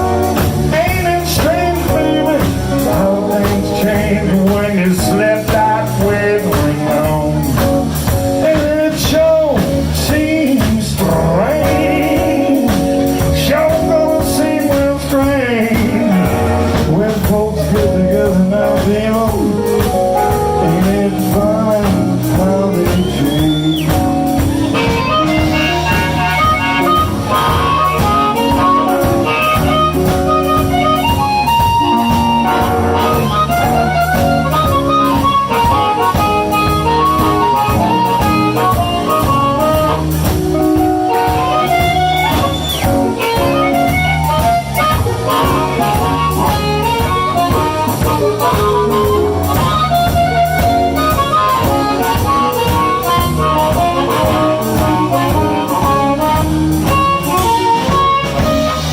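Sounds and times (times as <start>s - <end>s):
blues band playing: 0.0s - 58.9s.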